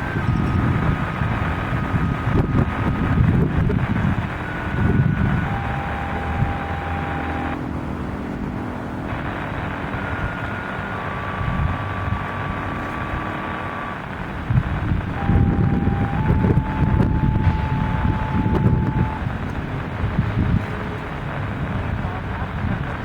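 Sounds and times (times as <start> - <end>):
faint thin steady tones: 0.0 - 23.0
low rumble: 0.0 - 23.0
wind buffeting microphone: 0.0 - 23.0.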